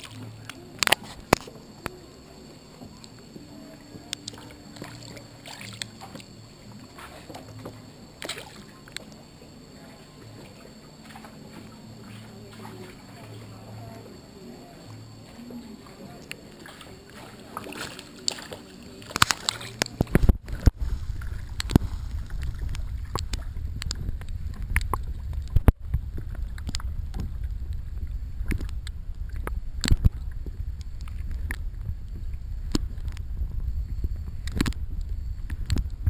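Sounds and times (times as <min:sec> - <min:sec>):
boat engine rumble: 0:00.0 - 0:36.0.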